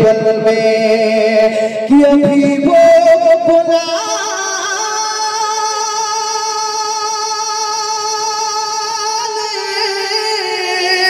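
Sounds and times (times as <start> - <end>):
man singing a long note: 0.0 - 11.0.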